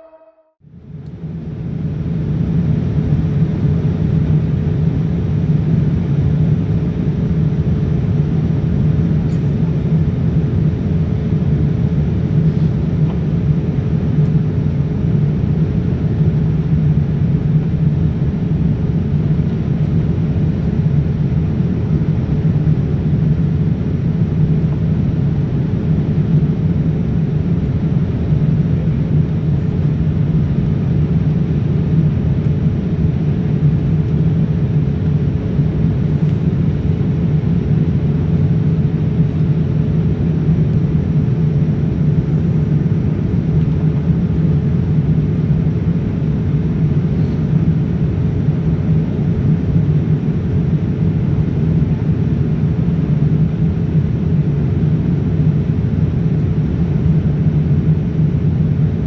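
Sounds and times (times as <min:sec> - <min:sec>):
airplane cabin engine rumble: 0:00.0 - 0:59.0
faint steady hum: 0:00.0 - 0:59.0.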